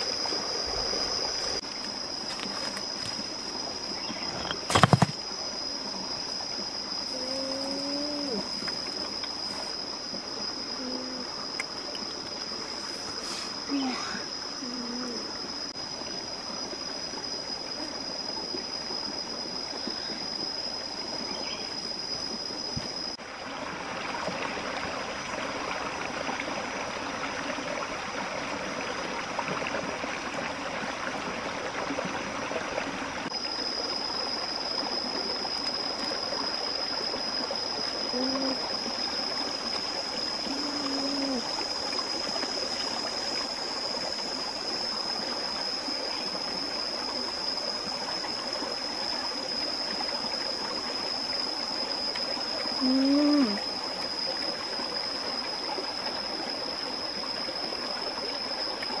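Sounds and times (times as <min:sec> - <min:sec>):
stream water rushing: 0:00.0 - 0:14.6, 0:15.2 - 0:59.0.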